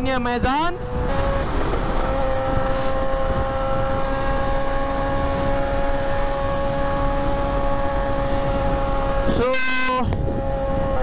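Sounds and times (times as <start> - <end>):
wind and road noise: 0.0 - 11.0
motorcycle engine cruising: 0.1 - 11.0.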